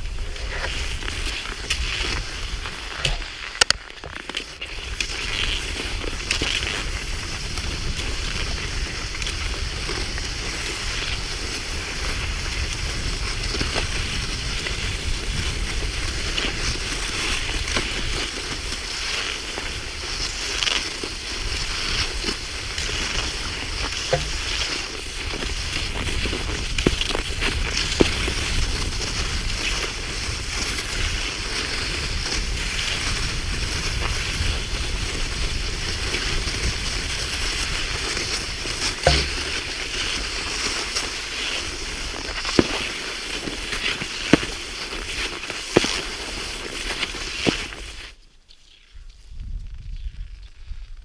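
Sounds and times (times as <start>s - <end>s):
wind rumble on microphone: 0.0s - 3.3s, 4.6s - 42.2s, 48.9s - 51.0s
skis swishing and crunching on snow: 0.0s - 51.0s.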